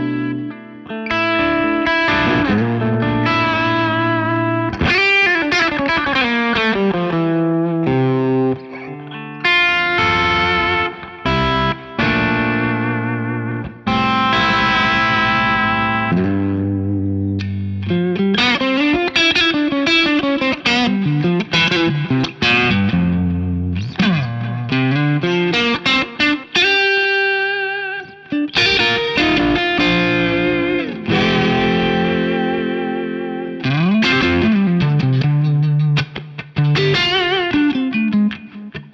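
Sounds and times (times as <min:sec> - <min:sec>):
electric guitar with vibrato: 0:00.0 - 0:38.9.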